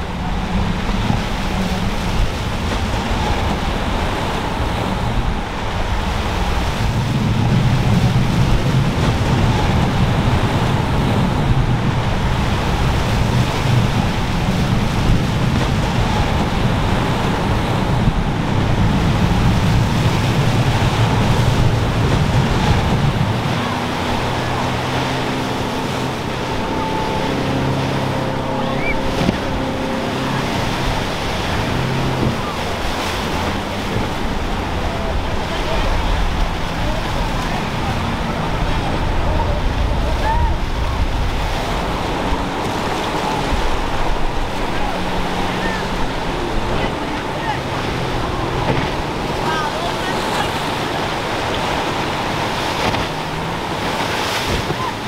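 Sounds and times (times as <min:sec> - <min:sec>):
outboard motor humming: 0:00.0 - 0:55.0
surf breaking: 0:00.0 - 0:55.0
wind on microphone: 0:00.0 - 0:55.0.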